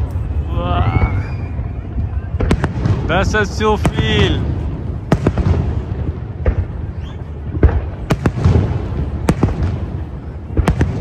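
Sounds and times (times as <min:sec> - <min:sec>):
continuous low rumble: 0:00.0 - 0:11.0
fireworks bangs: 0:00.0 - 0:11.0.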